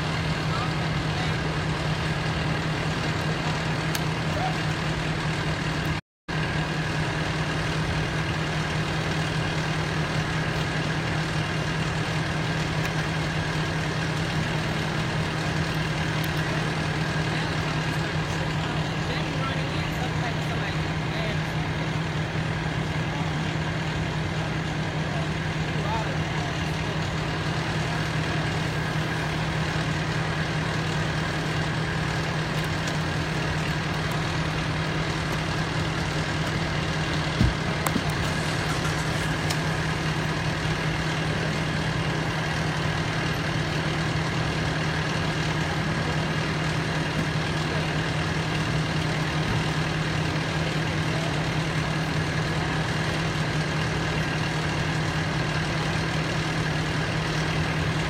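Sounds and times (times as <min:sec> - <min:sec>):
fire engine idling: 0:00.0 - 0:58.0.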